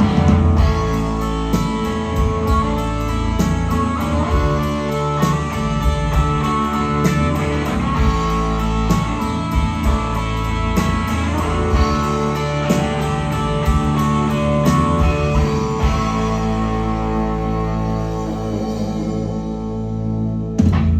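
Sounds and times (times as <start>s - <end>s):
guitar chord ringing: 0.0s - 20.7s
live rock band playing: 0.0s - 20.9s.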